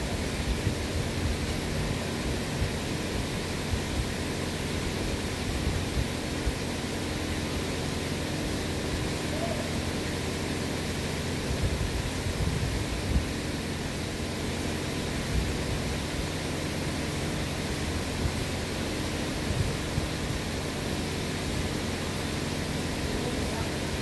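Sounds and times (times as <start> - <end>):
industrial fan running: 0.0 - 24.0.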